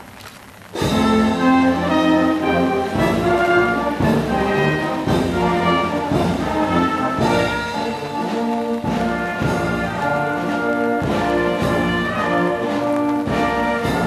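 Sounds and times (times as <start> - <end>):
brass music with held chords: 0.8 - 14.0.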